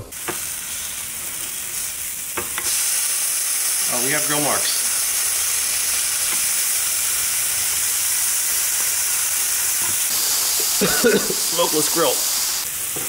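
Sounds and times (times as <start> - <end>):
patties sizzling on grill: 0.0 - 13.0.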